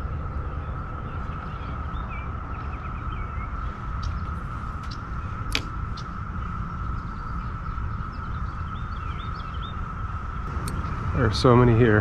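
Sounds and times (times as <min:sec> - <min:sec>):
birds chirping: 0:00.0 - 0:12.0
low steady rumble: 0:00.0 - 0:12.0
thin high hum: 0:00.0 - 0:12.0.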